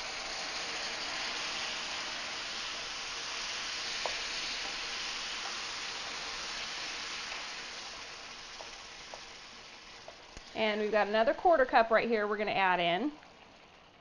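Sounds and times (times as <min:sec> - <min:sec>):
broth sizzling in hot pan: 0:00.0 - 0:14.0.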